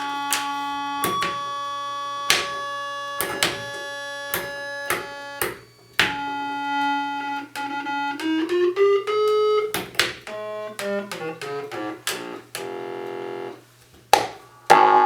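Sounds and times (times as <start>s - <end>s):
buzzy synthesizer notes: 0.0s - 13.8s, 14.5s - 15.0s.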